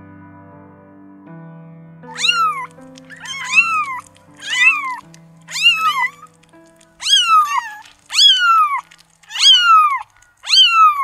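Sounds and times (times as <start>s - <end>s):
cat meowing: 2.1s - 11.0s.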